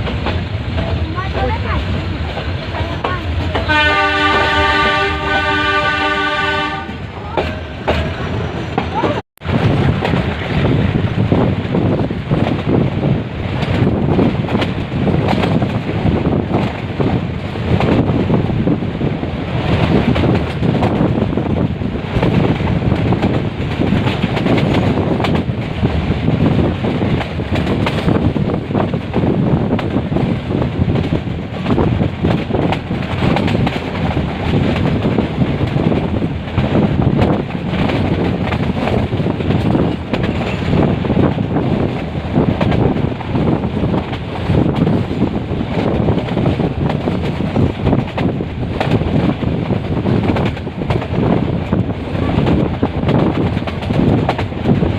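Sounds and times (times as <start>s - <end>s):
passenger train rumbling: 0.0s - 54.9s
wind buffeting microphone: 0.0s - 54.9s.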